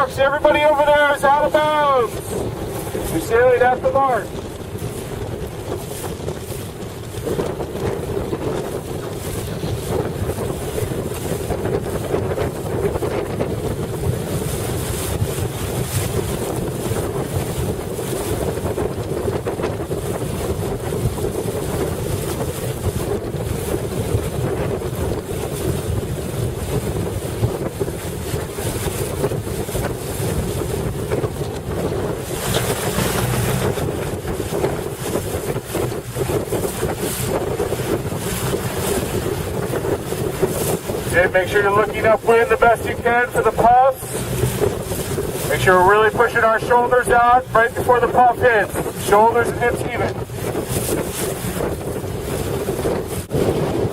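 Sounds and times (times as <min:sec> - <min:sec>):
waves rushing around boat: 0:00.0 - 0:53.9
wind buffeting microphone: 0:00.0 - 0:53.9.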